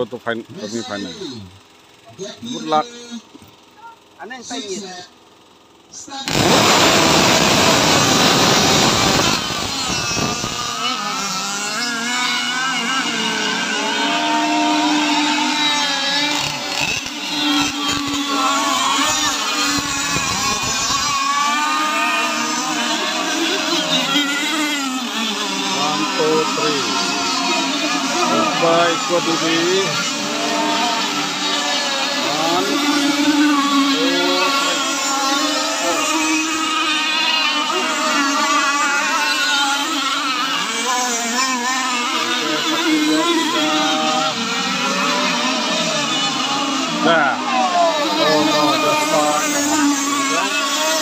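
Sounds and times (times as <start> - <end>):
model boat engines whining: 0.0 - 51.0.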